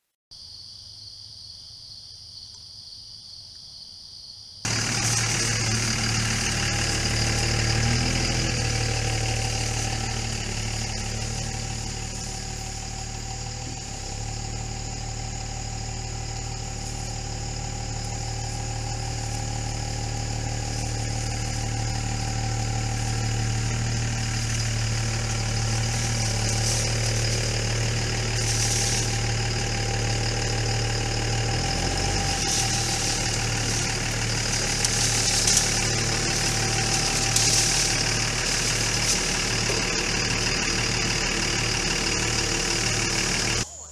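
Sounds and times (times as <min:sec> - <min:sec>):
pickup truck engine at low revs: 0:04.7 - 0:43.7.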